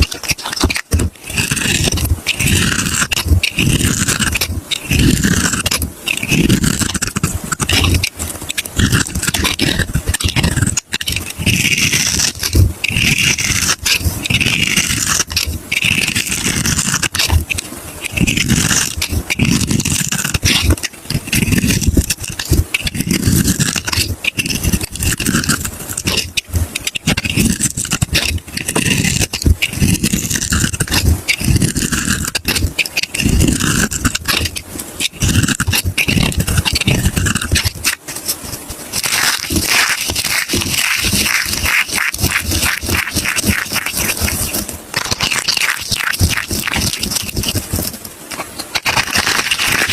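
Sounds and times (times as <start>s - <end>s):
soap crunching and scraping: 0.0s - 49.9s.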